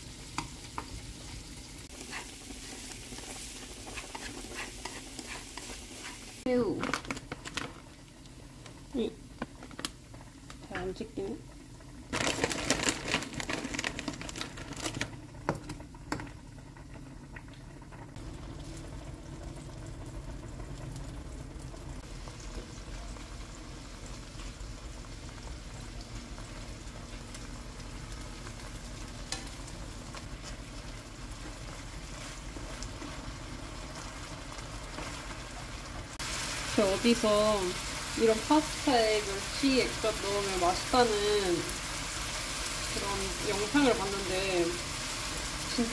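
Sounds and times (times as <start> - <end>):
shrimp sizzling in a frying pan: 0.0 - 45.9.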